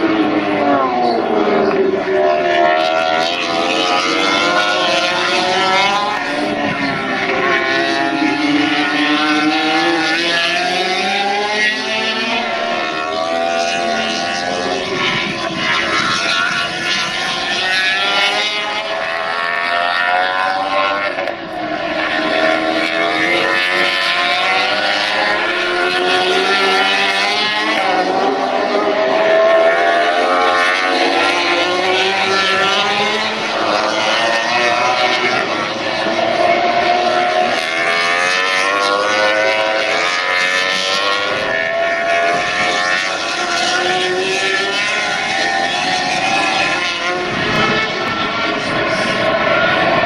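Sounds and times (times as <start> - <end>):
racing motorcycles passing: 0.0 - 50.0.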